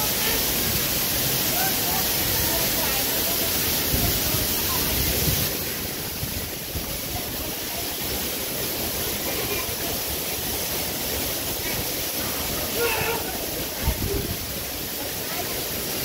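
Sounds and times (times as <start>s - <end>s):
waterfall rushing: 0.0s - 16.0s
faint voices: 1.3s - 16.0s.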